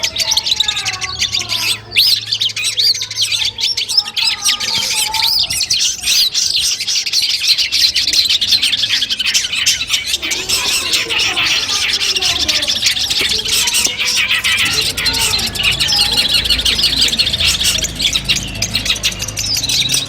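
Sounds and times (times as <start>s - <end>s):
bird chirping and trilling: 0.0s - 20.0s.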